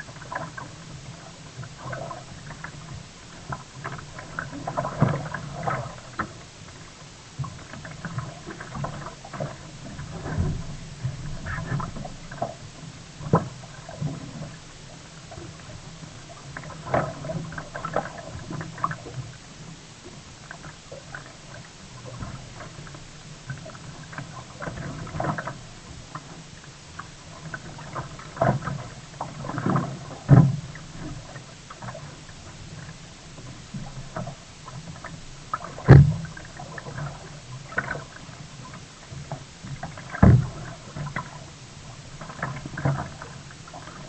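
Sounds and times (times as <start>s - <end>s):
water splashing against kayak: 0.0s - 44.0s.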